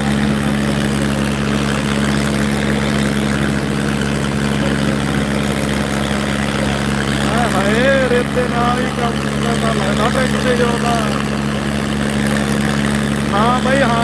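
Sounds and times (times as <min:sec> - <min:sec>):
tractor diesel engines straining: 0:00.0 - 0:14.0.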